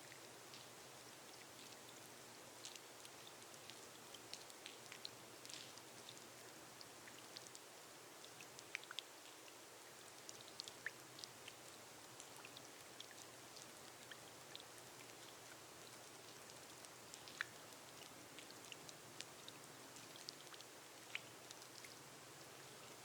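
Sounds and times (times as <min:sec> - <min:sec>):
rain on a glass roof: 0:00.0 - 0:23.0.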